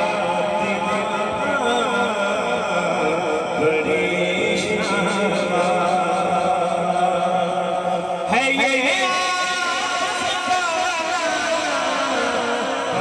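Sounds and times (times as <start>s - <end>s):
men chanting devotional melody: 0.0s - 13.0s.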